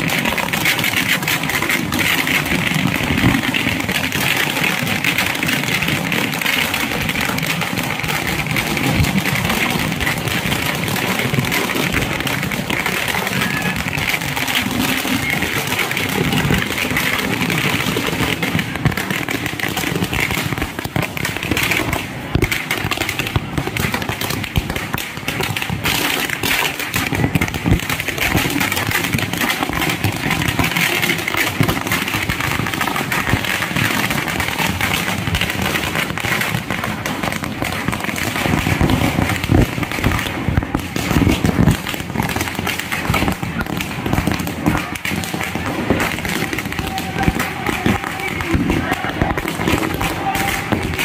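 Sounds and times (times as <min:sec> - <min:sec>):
firecrackers banging: 0:00.0 - 0:51.0.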